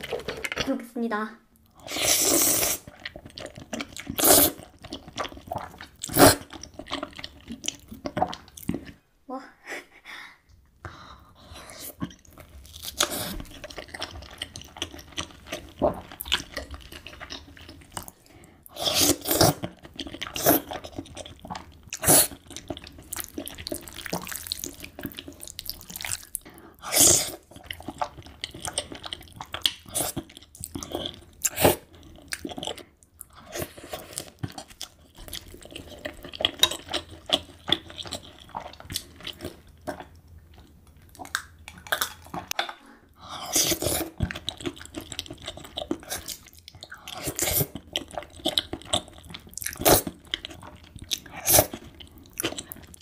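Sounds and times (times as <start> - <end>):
wet chewing and slurping: 1.7 - 9.0, 11.4 - 53.0.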